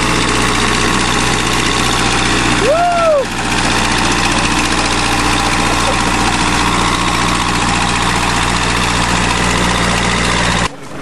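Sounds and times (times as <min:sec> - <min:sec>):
backhoe engine running: 0:00.0 - 0:11.0.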